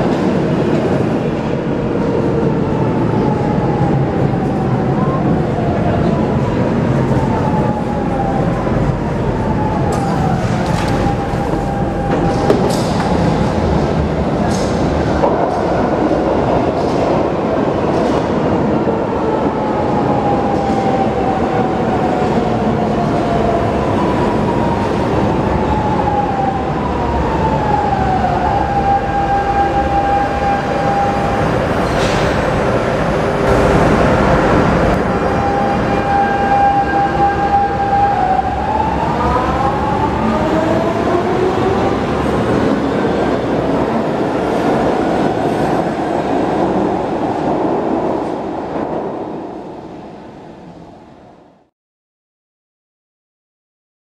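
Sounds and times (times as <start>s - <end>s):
wheels rumbling on rail: 0.0s - 51.3s.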